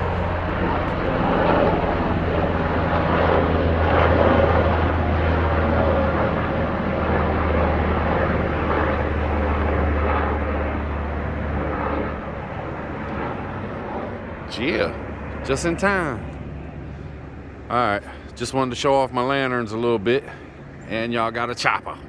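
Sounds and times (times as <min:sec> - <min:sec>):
helicopter rotor drone: 0:00.0 - 0:22.0.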